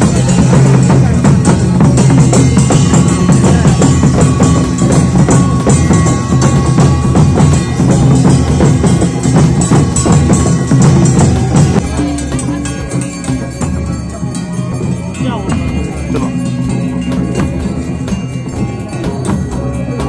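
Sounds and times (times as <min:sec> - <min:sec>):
fast dense drumming: 0:00.0 - 0:20.0.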